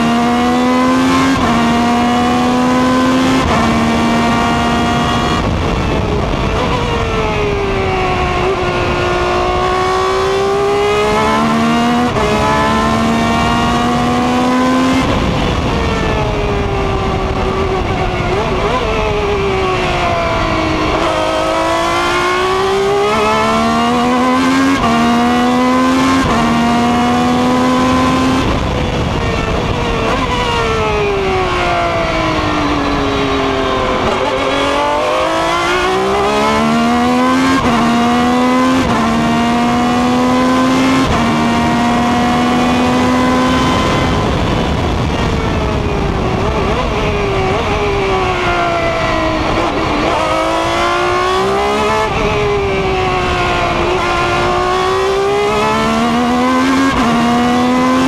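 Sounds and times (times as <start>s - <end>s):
racing car engine shifting gears: 0.0s - 58.0s.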